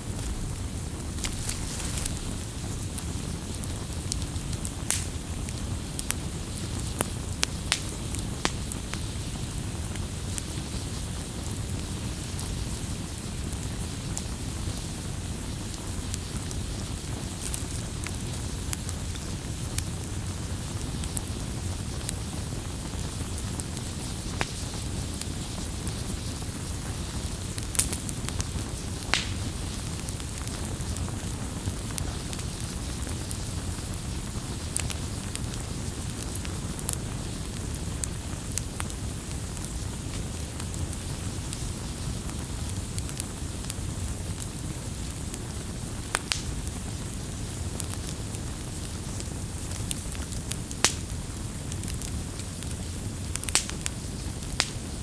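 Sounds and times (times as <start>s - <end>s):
burning wood crackling: 0.0s - 55.0s
rumble of flames: 0.0s - 55.0s.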